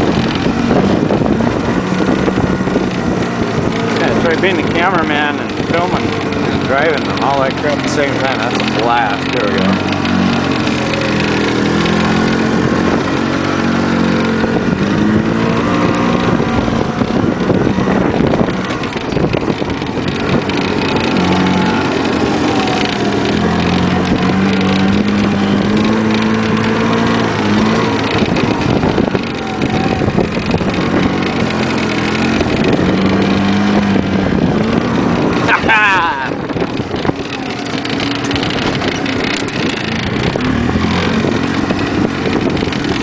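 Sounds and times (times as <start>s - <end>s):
golf cart engine revving: 0.0s - 43.0s.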